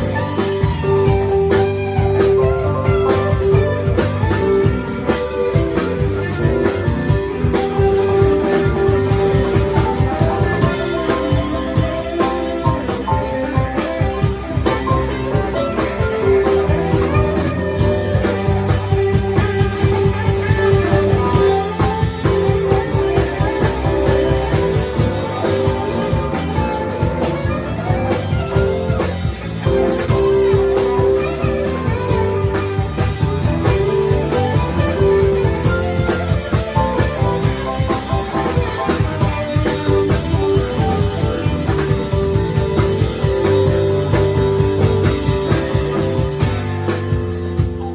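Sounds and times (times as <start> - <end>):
guitar: 0.0 - 47.9
steady drum beat: 0.0 - 47.9.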